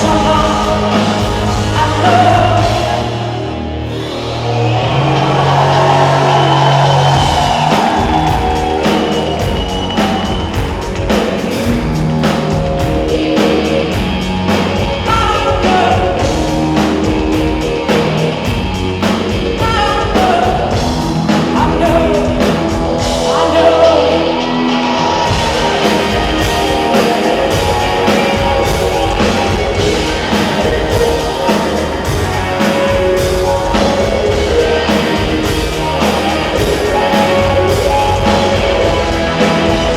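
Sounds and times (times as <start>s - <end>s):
live rock band playing: 0.0s - 39.9s
steady drums: 0.0s - 39.9s
sung lead vocal: 0.0s - 39.9s.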